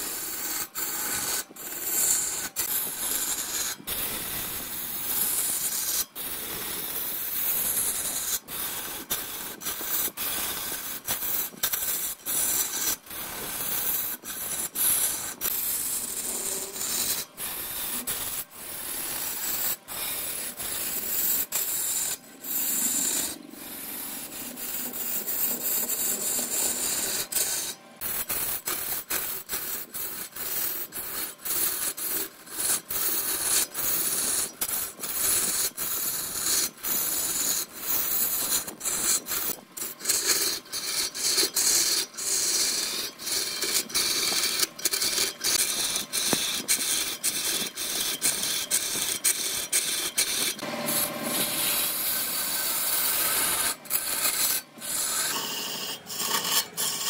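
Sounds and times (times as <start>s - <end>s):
lathe tool scraping wood: 0.0s - 57.0s.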